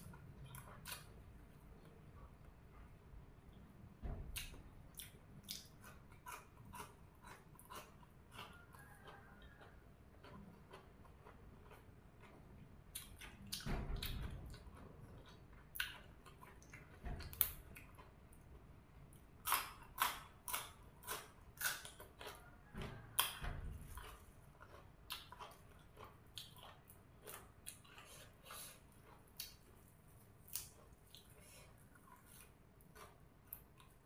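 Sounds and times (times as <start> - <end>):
crunching raw vegetables: 4.4 - 34.0.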